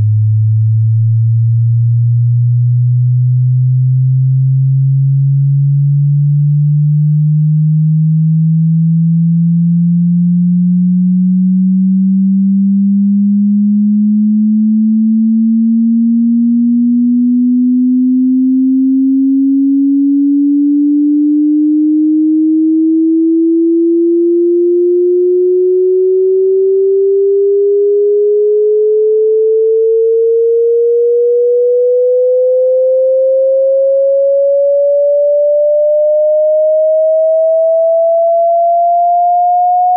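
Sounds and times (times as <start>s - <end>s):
pure tone rising in pitch: 5.3s - 39.9s.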